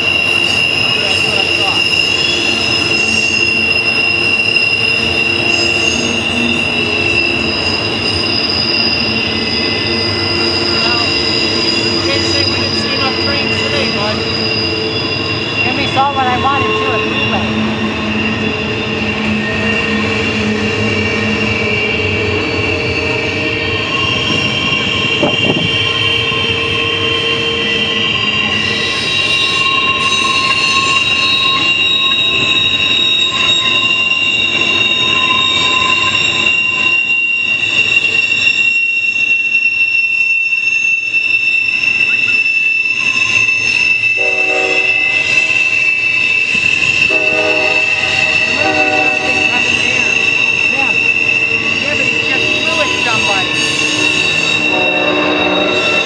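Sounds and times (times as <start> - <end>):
freight train rolling past: 0.0 - 56.0
train wheels squealing: 0.0 - 56.0.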